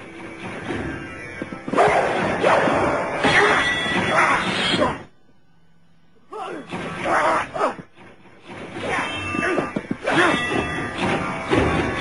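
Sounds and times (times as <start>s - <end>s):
film soundtrack music: 0.0s - 12.0s.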